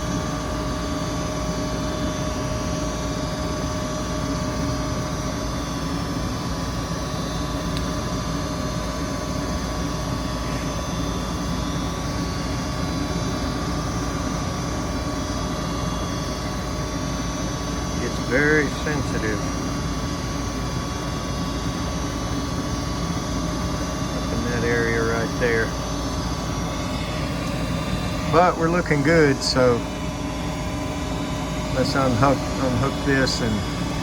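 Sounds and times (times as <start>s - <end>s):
faint steady whine: 0.0s - 34.0s
gas furnace running: 0.0s - 34.0s.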